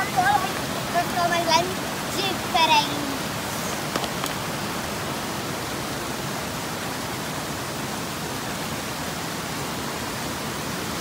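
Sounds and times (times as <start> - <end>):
small waterfall over rock: 0.0 - 11.0.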